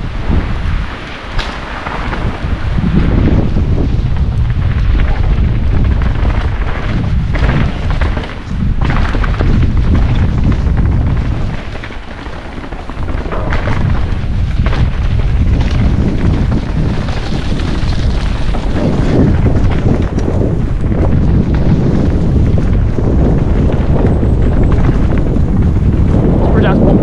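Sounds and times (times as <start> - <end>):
wind buffeting the microphone: 0.0 - 27.0
bike knocks and rattles: 1.4 - 26.3.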